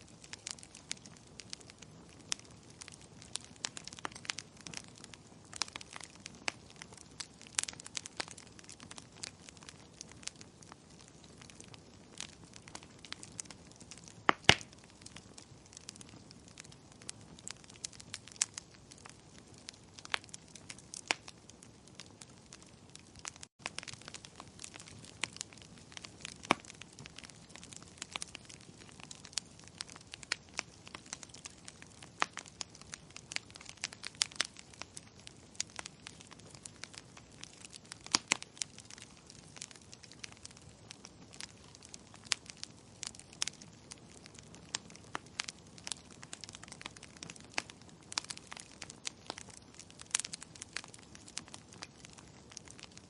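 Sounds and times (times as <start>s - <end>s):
fire pops and snaps: 0.0s - 53.0s
soft steady hiss: 0.0s - 53.0s
wood fire crackling: 0.0s - 53.0s.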